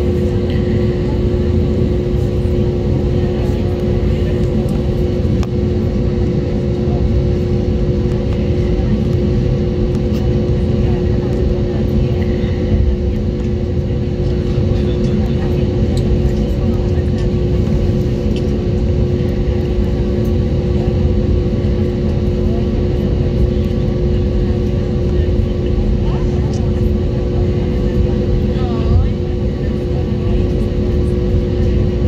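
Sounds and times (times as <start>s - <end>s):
jet engines deep rumble: 0.0s - 32.0s.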